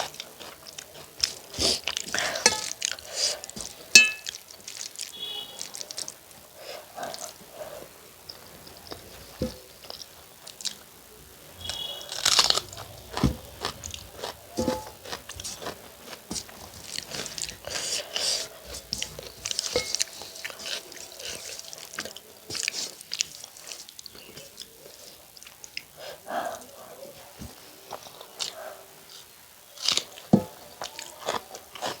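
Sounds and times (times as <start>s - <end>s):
person chewing and crunching food: 0.0s - 32.0s.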